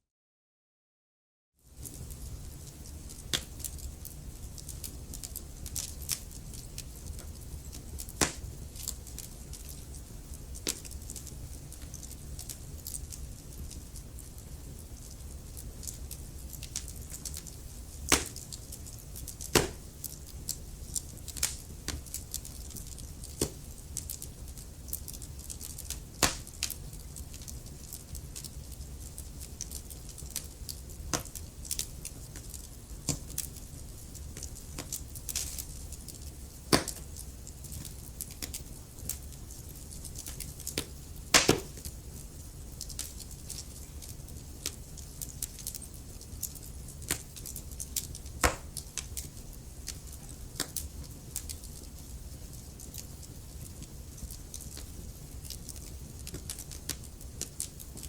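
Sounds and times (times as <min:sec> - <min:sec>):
wood fire crackling: 0:01.6 - 0:58.0.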